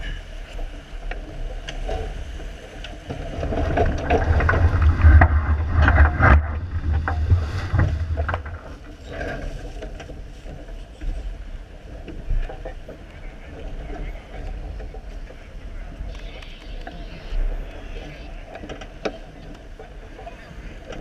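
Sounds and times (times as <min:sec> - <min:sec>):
sails and rigging rattling: 0:00.0 - 0:21.0
water rushing past hull: 0:00.0 - 0:21.0
wind buffeting microphone: 0:00.0 - 0:21.0.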